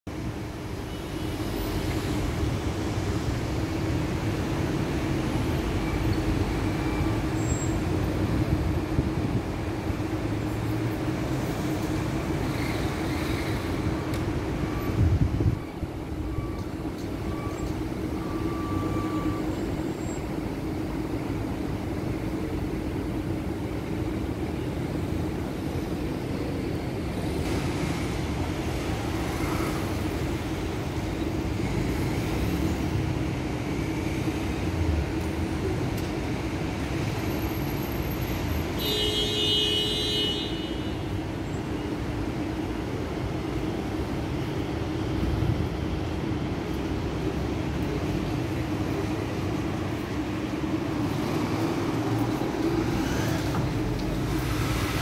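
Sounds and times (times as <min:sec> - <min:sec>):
low city rumble: 0:00.1 - 0:55.0.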